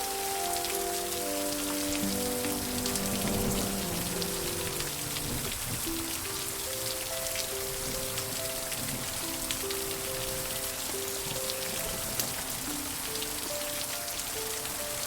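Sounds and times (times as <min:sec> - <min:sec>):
rain drops ticking: 0:00.0 - 0:15.0
slow soft music: 0:00.0 - 0:15.0.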